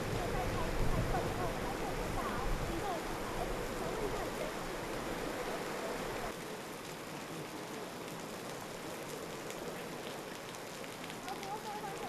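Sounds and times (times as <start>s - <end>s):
rain and wind rushing: 0.0s - 12.0s
raindrops pattering: 0.0s - 12.0s.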